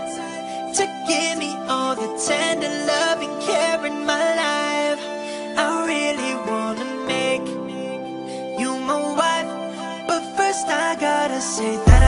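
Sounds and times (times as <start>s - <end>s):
background music with gliding melody: 0.0s - 12.0s.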